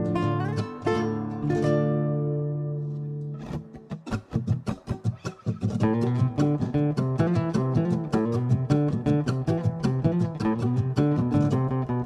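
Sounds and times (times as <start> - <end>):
plucked guitar-like notes: 0.0 - 12.0.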